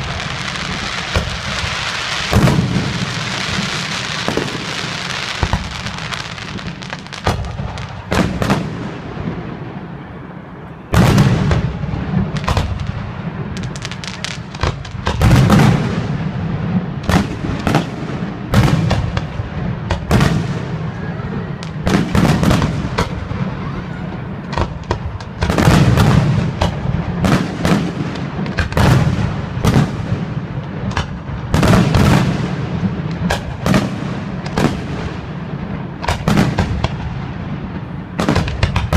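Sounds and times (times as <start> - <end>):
firework crackle: 0.0 - 38.9.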